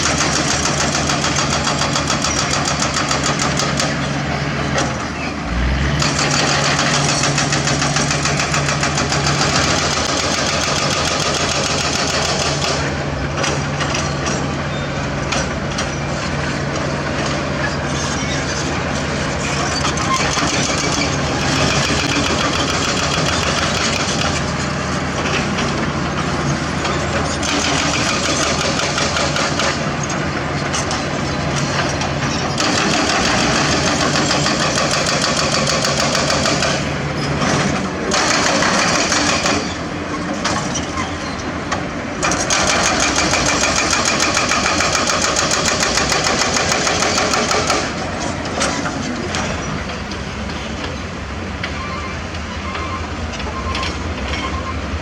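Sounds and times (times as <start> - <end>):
heavy diesel machines working: 0.0 - 55.0.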